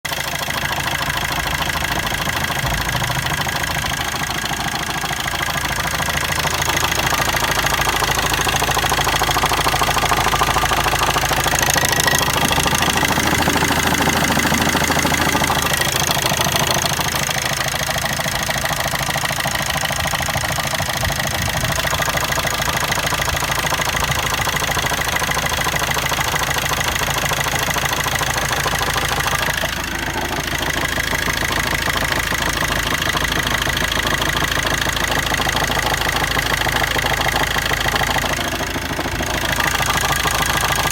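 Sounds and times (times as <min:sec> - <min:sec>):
diesel engine idling: 0:00.0 - 0:40.9
rhythmic engine knock: 0:00.0 - 0:40.9.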